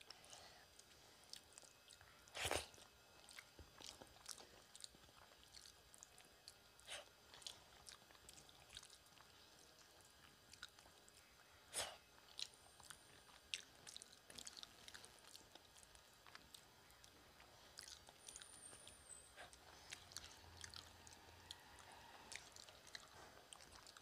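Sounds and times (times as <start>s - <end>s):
person chewing with small clicks: 0.0s - 24.0s.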